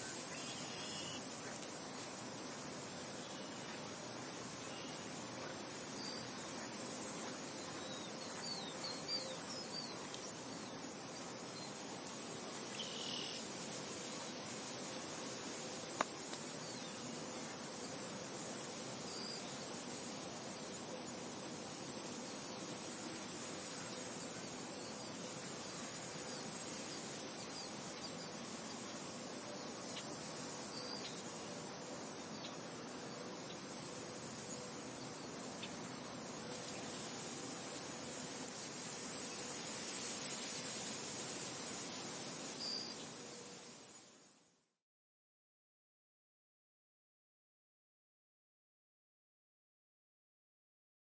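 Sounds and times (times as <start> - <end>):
wind hiss: 0.0 - 44.6.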